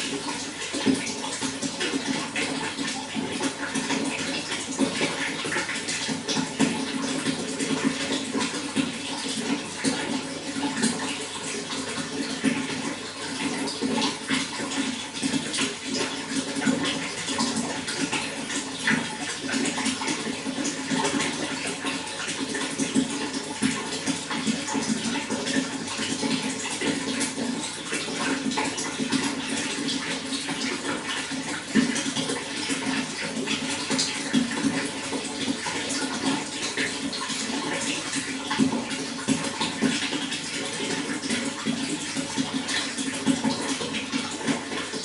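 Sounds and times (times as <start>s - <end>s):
running water splashing: 0.0s - 45.0s.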